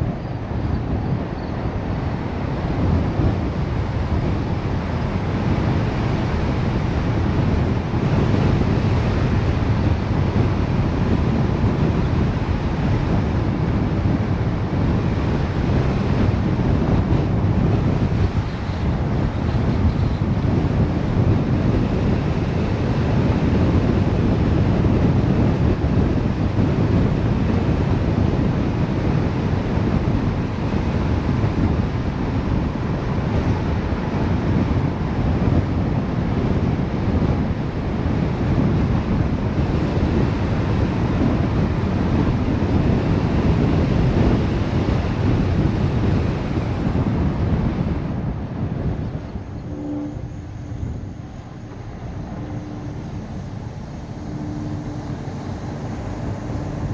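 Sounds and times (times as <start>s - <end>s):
wind and road noise from car: 0.0s - 56.9s.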